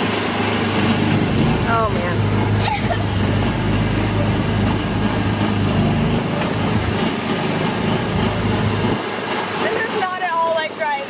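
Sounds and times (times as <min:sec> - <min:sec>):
small gasoline engine running: 0:00.0 - 0:09.0
road and wind noise: 0:00.0 - 0:11.0.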